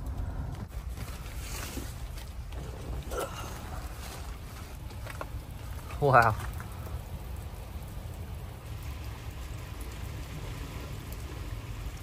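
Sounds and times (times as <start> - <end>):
low constant rumble: 0.0 - 12.0
steady rain falling: 0.0 - 12.0.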